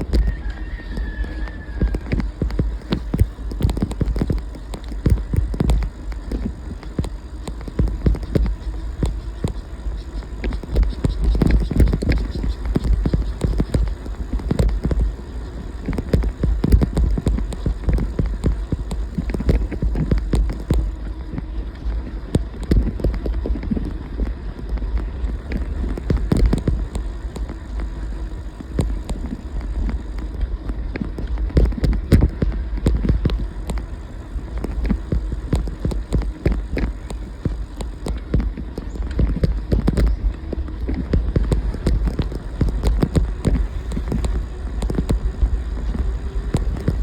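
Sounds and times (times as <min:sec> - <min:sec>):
wind rumble on microphone: 0:00.0 - 0:47.0.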